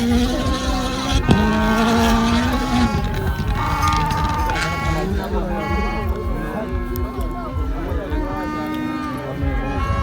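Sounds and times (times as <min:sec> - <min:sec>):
rally car engine at high revs: 0:00.0 - 0:10.0.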